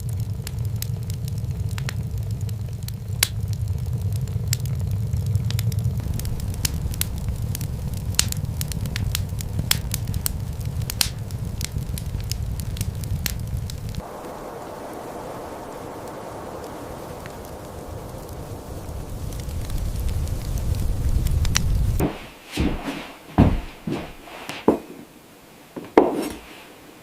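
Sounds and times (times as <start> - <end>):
steady hiss: 0.0 - 27.0
wood fire crackling: 0.0 - 27.0.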